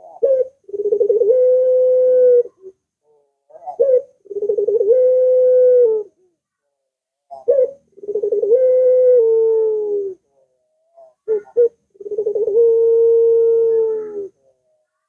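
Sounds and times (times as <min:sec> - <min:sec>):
dove cooing: 0:00.0 - 0:06.4, 0:07.3 - 0:15.0.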